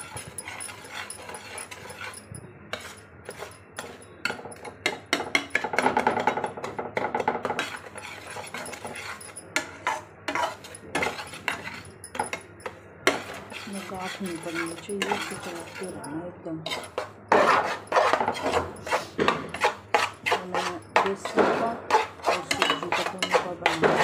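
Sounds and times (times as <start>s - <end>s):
spoon scraping a steel pan: 0.0s - 24.0s.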